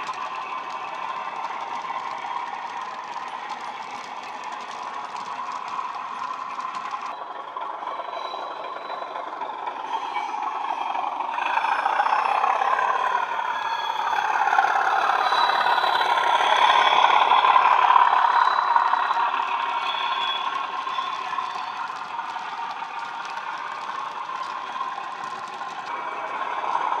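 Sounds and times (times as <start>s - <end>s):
model diesel engine sound: 0.0s - 27.0s
wheels rattling over track: 0.0s - 27.0s.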